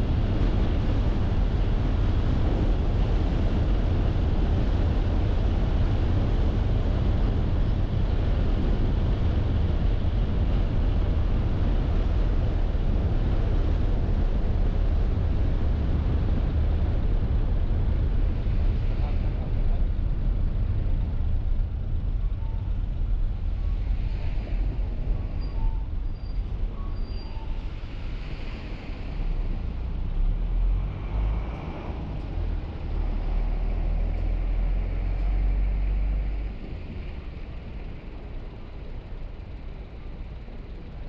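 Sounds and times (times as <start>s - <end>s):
car engine and road noise rumble: 0.0s - 41.0s.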